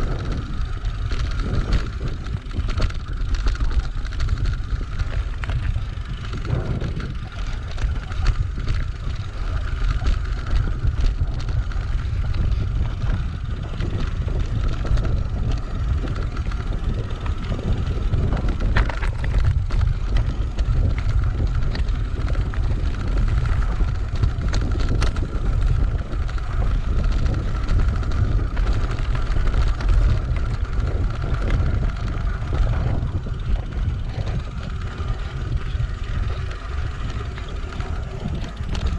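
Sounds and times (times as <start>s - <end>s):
bike tyres rumbling on gravel: 0.0s - 38.9s
steady high whir: 0.0s - 38.9s
wind buffeting microphone: 0.0s - 38.9s.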